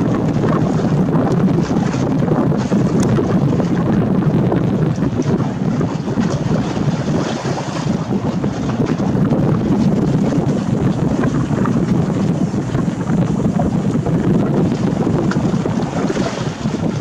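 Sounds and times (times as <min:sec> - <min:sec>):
choppy water washing: 0:00.0 - 0:17.0
wind buffeting microphone: 0:00.0 - 0:17.0.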